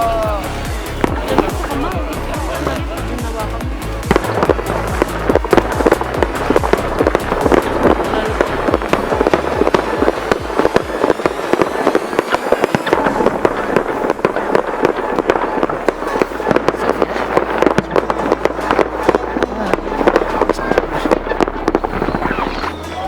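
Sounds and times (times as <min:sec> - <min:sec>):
deep firework thumps: 0:00.0 - 0:22.8
fireworks bangs and crackles: 0:00.0 - 0:23.0.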